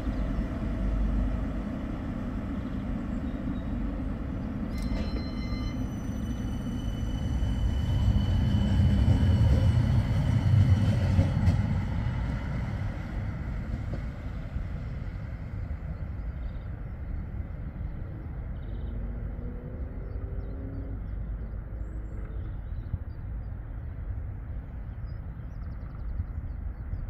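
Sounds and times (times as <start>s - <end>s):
tram rumbling: 0.0s - 27.0s.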